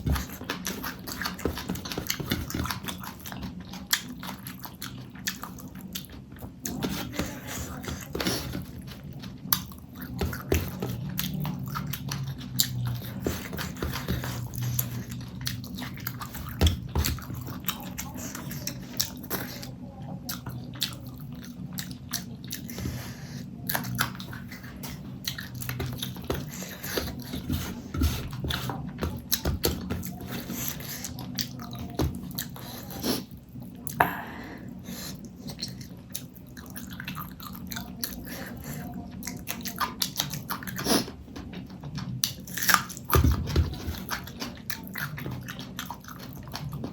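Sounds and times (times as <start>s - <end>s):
close chewing and biting: 0.0s - 46.9s.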